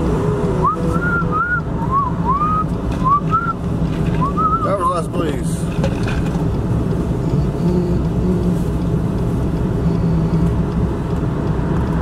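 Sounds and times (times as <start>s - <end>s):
truck engine idling: 0.0s - 9.6s.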